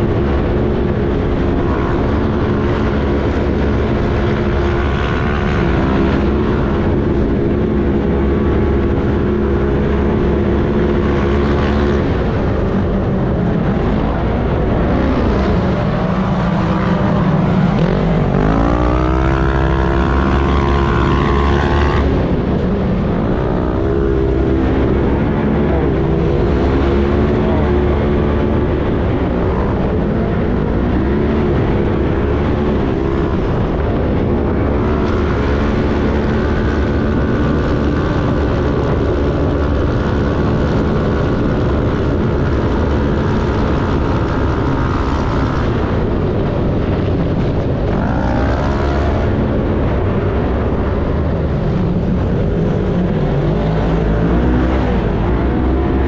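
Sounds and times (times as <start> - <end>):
race car engine revving: 0.0 - 56.0
wind: 0.0 - 56.0.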